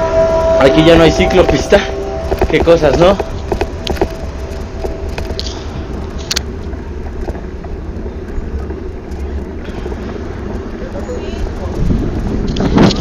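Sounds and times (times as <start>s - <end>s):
city car traffic: 0.0s - 13.0s
wind rumble on microphone: 0.0s - 13.0s.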